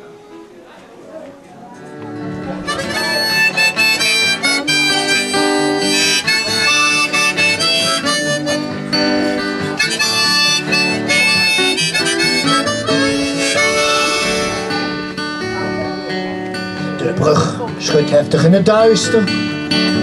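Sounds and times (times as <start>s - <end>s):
acoustic guitar accompaniment: 0.0s - 20.0s
harmonica melody: 2.5s - 20.0s.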